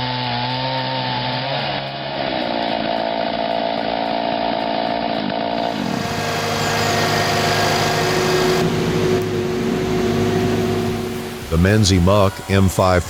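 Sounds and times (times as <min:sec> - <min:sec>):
motor running at high revs: 0:00.0 - 0:13.0
steady low engine note: 0:00.0 - 0:13.0.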